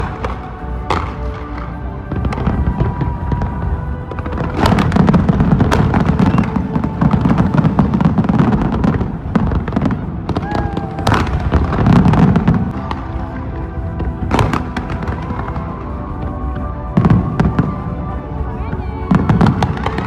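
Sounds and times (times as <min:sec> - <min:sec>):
fireworks crackling and popping: 0:00.0 - 0:20.0
low rumble: 0:00.0 - 0:20.0.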